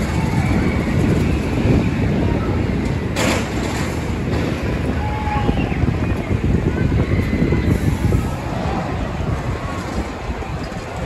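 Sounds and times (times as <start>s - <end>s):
faint crowd voices: 0.0s - 11.0s
steady low rumble: 0.0s - 11.0s.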